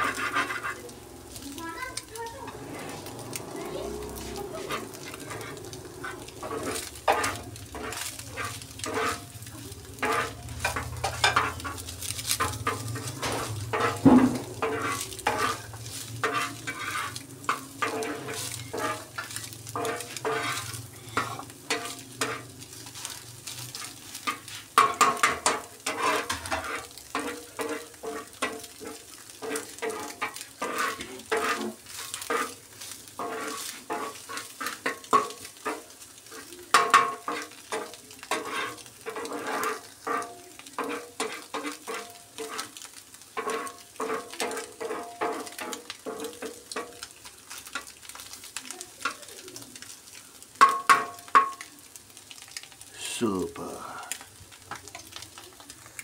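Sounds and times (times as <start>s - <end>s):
metal spatula scraping griddle: 0.0s - 48.3s
light sizzle of frying: 0.0s - 56.0s.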